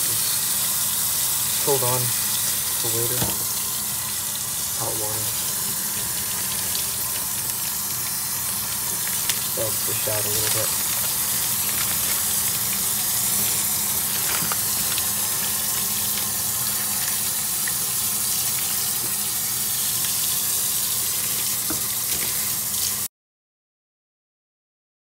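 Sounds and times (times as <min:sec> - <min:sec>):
water running into a metal sink: 0:00.0 - 0:23.1.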